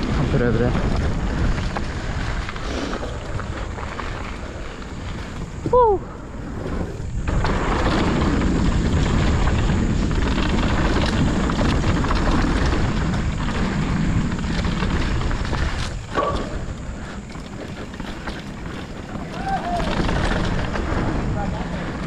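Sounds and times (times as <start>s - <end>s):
bike tyres rumbling on dirt: 0.0s - 22.0s
wind buffeting microphone: 0.0s - 22.0s.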